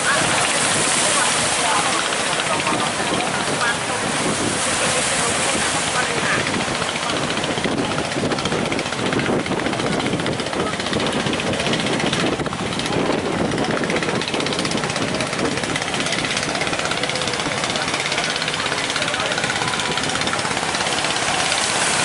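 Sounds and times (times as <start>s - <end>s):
boat engines running hard: 0.0s - 22.0s.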